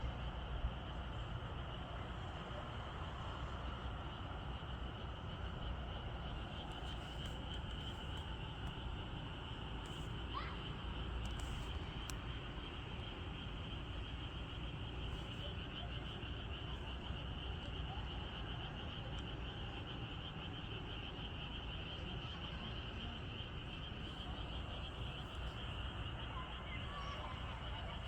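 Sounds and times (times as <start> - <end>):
frogs and insects trilling: 0.0 - 28.0.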